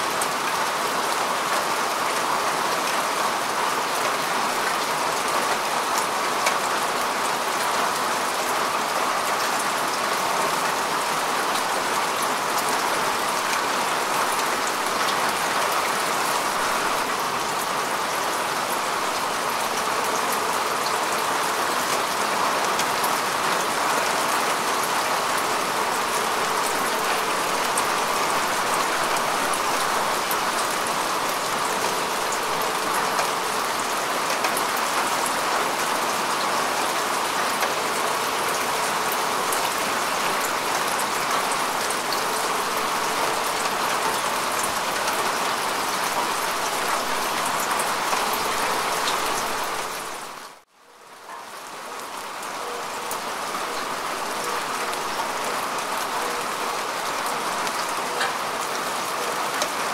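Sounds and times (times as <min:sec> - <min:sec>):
rain falling on grass: 0:00.0 - 0:59.9.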